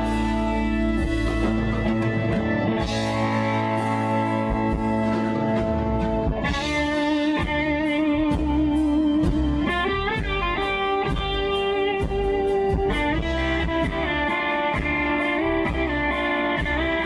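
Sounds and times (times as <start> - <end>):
lead electric guitar: 0.0 - 17.0
steady drum beat: 0.0 - 17.0.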